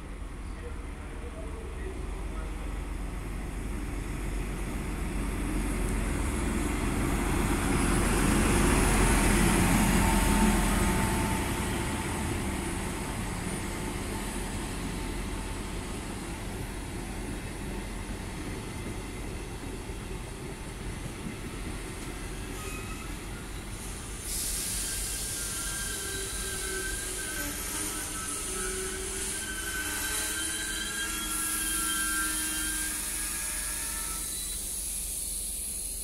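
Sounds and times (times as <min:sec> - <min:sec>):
diesel locomotive passing: 0:00.0 - 0:36.0
train coaches rolling on rails: 0:00.1 - 0:36.0.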